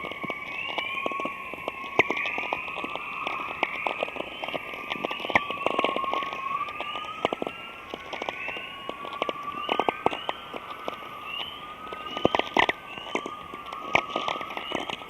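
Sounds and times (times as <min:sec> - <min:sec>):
sharp irregular crackles: 0:00.0 - 0:15.0
wavering steady whine: 0:00.0 - 0:15.0.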